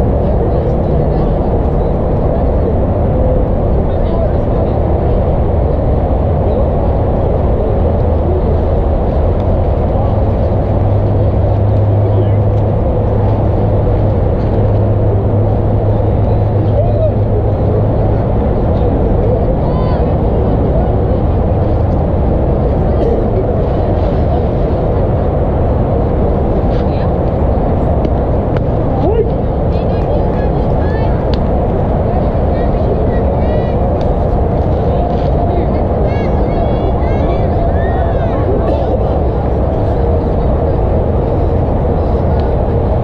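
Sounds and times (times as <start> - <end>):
low hum: 0.0 - 43.0
steady low rumbling: 0.0 - 43.0
wind buffeting microphone: 0.0 - 43.0.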